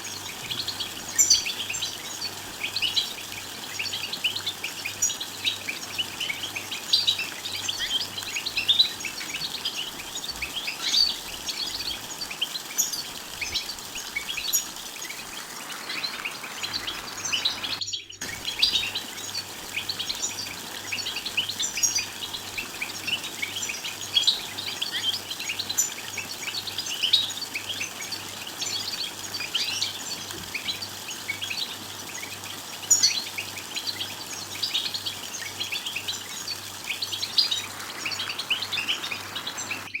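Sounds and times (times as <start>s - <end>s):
goldfinch twittering and singing: 0.0s - 40.0s.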